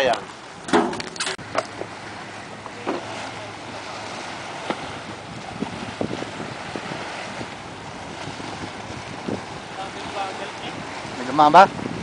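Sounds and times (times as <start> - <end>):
waves washing against rocks: 0.0 - 12.0
wind on microphone: 0.2 - 12.0.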